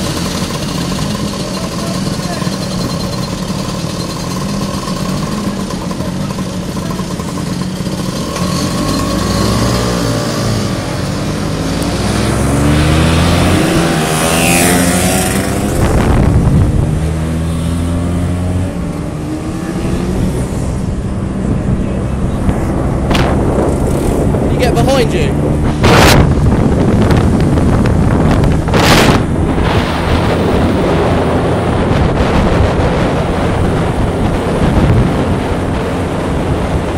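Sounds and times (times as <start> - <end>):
scooter engine running: 0.0 - 36.9.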